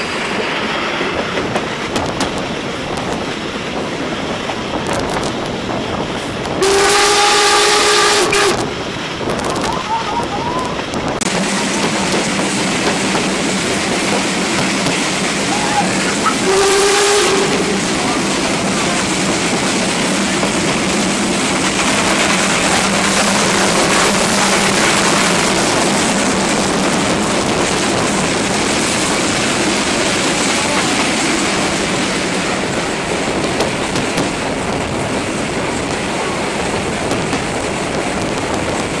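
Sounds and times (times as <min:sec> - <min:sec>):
train wheels on rails: 0:00.0 - 0:39.0
wind on microphone: 0:01.2 - 0:39.0.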